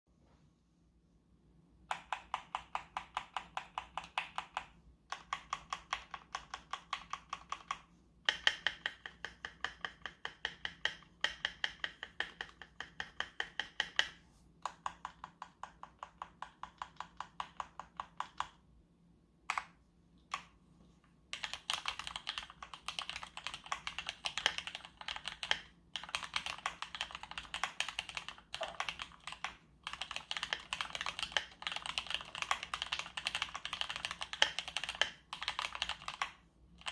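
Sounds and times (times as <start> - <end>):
keyboard typing: 1.8 - 18.6, 21.3 - 36.9.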